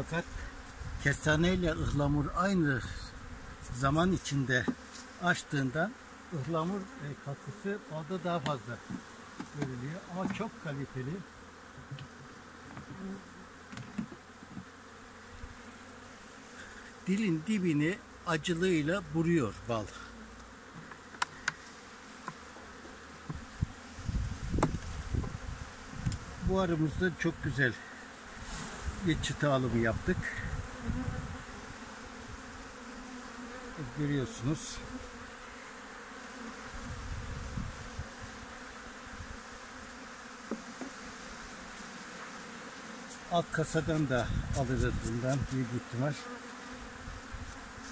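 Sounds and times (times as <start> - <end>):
bees buzzing: 0.0 - 47.9
bees passing close: 0.0 - 47.9.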